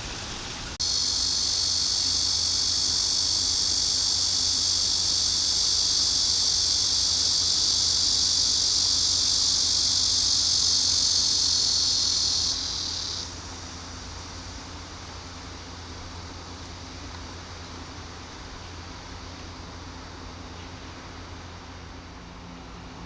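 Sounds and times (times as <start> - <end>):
cicadas shrilling: 0.0 - 22.1.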